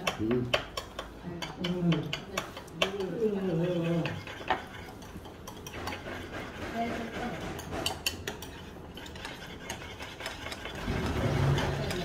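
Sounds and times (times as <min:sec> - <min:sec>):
dishes and cutlery clinking: 0:00.0 - 0:12.0.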